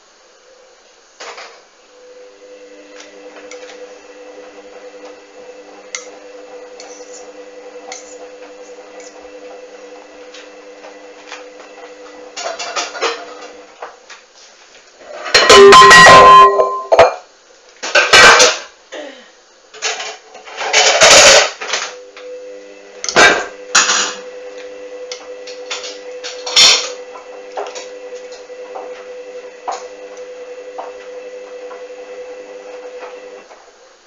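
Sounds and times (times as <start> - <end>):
washing machine motor whine: 0.0 - 14.1, 15.0 - 17.2, 19.8 - 34.0.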